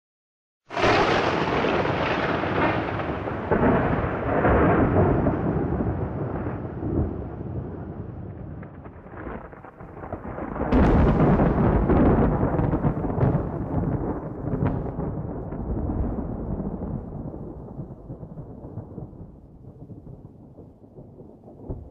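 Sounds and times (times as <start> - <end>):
rolling thunder rumbles: 0.7 - 21.9
sharp thunder crack: 0.7 - 21.9.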